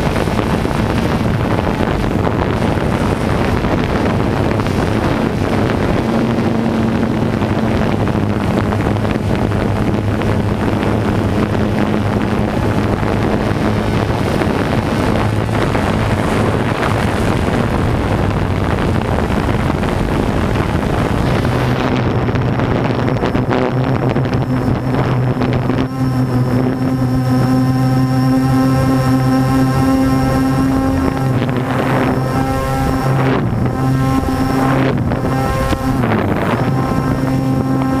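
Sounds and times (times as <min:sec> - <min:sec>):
drone propellers humming: 0:00.0 - 0:38.0
wind rush on microphone: 0:00.0 - 0:38.0.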